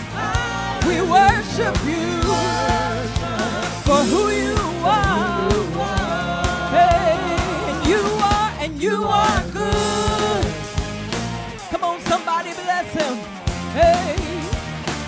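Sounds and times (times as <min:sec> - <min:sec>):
instrumental accompaniment with beat: 0:00.0 - 0:08.6, 0:09.2 - 0:15.0
gospel group singing: 0:00.0 - 0:13.0, 0:13.6 - 0:14.7.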